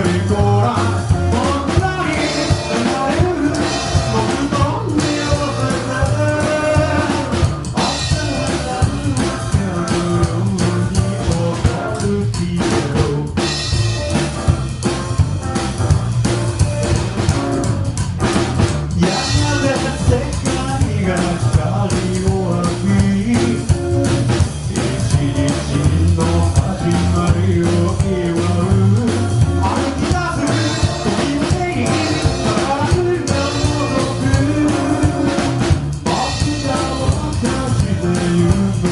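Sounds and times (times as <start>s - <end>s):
person singing: 0.0s - 13.7s, 19.0s - 38.9s
rockabilly band playing: 0.0s - 38.9s.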